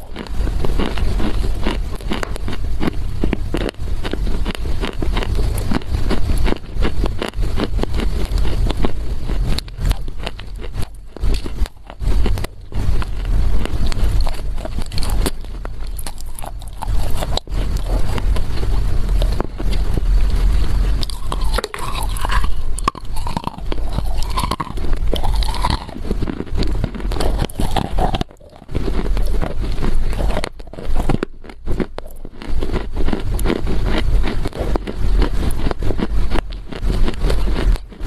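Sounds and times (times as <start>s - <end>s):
gritty crunching of chewed clay: 0.0s - 38.0s.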